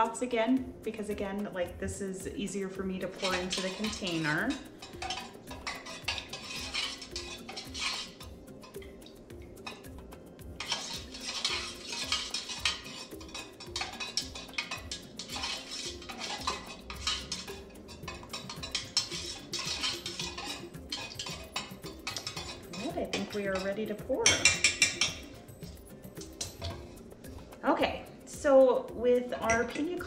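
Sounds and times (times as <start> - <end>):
utensil stirring in metal pitcher: 2.9 - 27.6.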